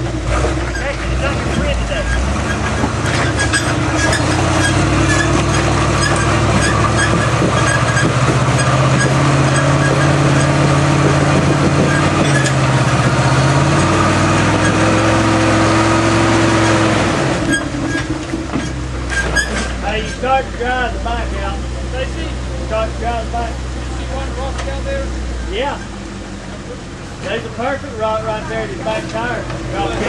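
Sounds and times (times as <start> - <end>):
engine working under load: 0.0 - 30.0.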